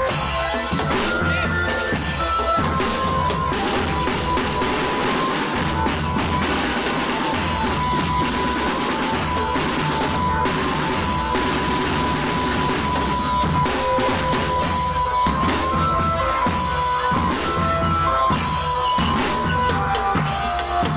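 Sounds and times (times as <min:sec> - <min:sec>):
drum band drumming: 0:00.0 - 0:20.9.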